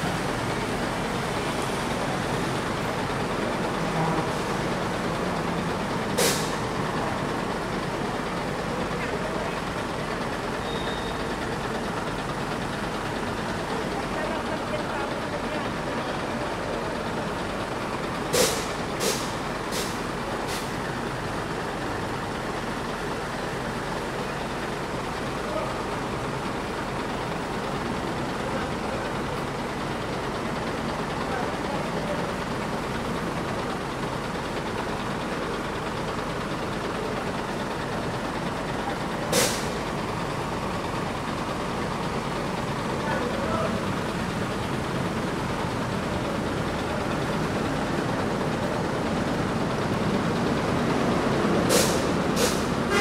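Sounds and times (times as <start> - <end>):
bus engine idling: 0.0 - 53.0.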